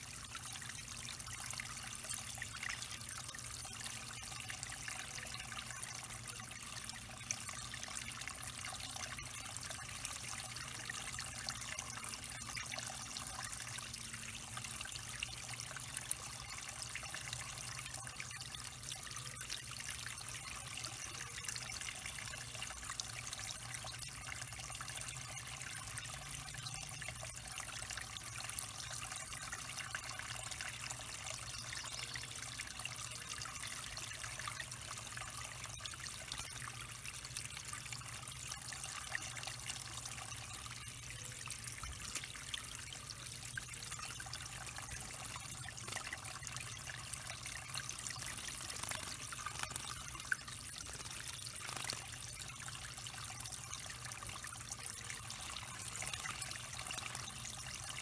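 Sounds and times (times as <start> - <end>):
waterfall trickling over stones: 0.0 - 58.0.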